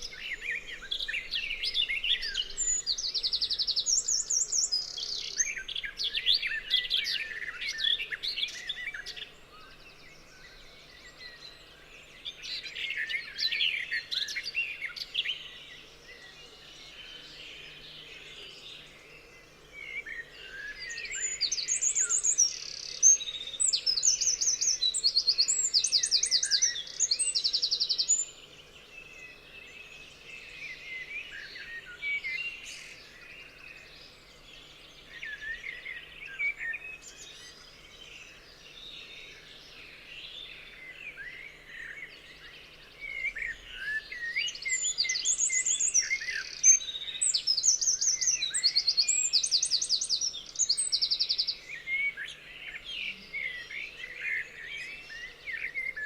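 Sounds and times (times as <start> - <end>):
loud bird song of high notes: 0.0 - 56.0
songbirds singing and chirping: 0.0 - 56.0.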